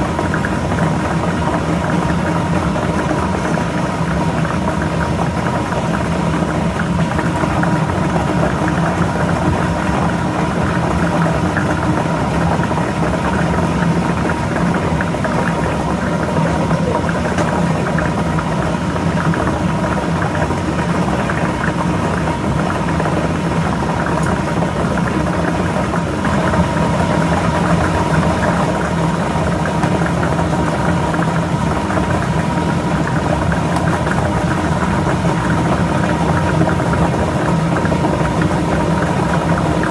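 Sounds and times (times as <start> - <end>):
balls rattling in a drum: 0.0 - 39.9
blower motor humming: 0.0 - 39.9.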